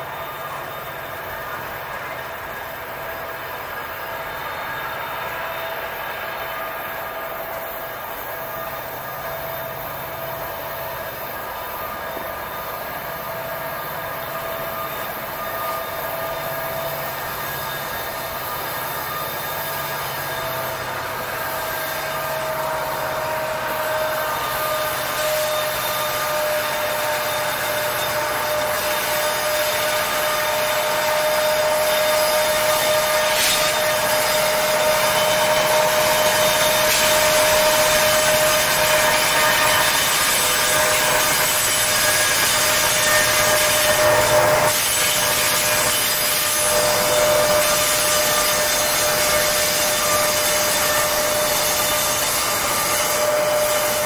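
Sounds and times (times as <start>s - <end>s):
freight train rolling past: 0.0s - 54.0s
high-pitched wheel squeal: 8.2s - 54.0s.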